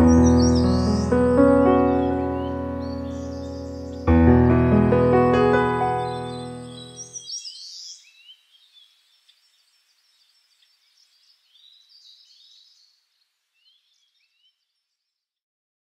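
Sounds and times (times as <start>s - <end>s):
faint birdsong: 0.0s - 15.4s.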